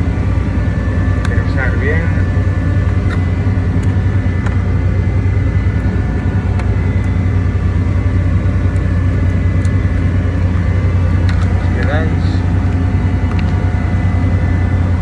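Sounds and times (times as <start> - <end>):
boat machinery droning: 0.0 - 15.0
faint high whine: 0.0 - 15.0.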